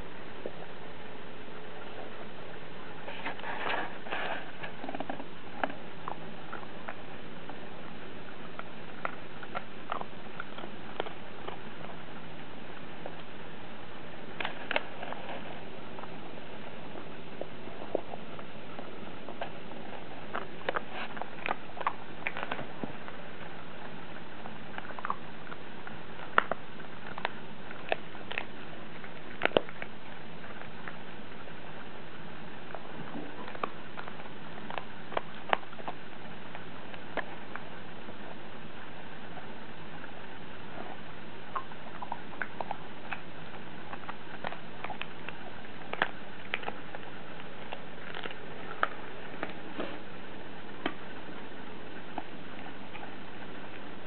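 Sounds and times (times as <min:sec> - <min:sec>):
dog crunching a chew treat: 0:01.7 - 0:54.0.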